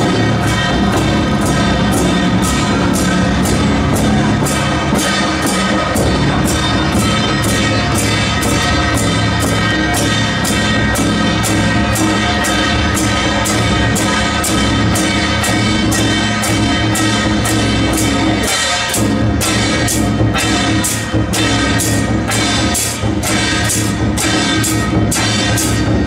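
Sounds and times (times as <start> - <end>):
cymbals struck: 0.0 - 26.0
large drum beat: 0.0 - 26.0.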